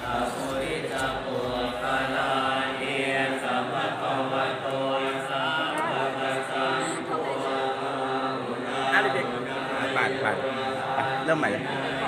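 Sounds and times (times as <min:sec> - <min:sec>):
voices chanting in monotone: 0:00.0 - 0:12.0.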